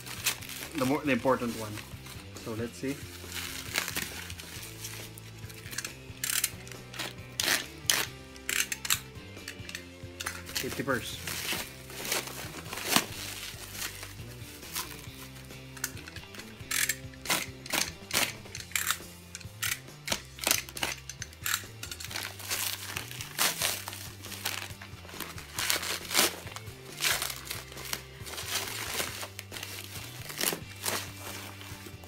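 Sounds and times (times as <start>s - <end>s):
bubble wrap crinkling: 0.0s - 8.8s, 10.2s - 19.0s, 20.1s - 32.0s
soft background music: 0.0s - 32.0s.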